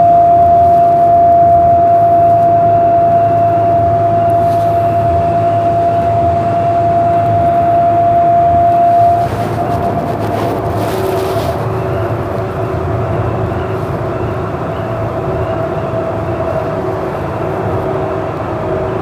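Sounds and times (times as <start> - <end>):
light rail train running: 0.0 - 19.0
steady tone: 0.0 - 19.0.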